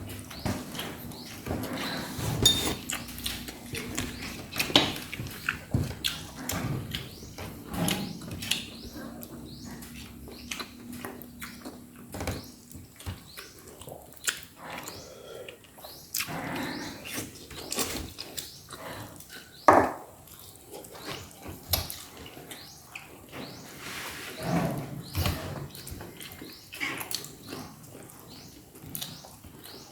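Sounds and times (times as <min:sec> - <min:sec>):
person chewing food: 0:00.1 - 0:07.2, 0:08.4 - 0:23.3, 0:25.7 - 0:29.9.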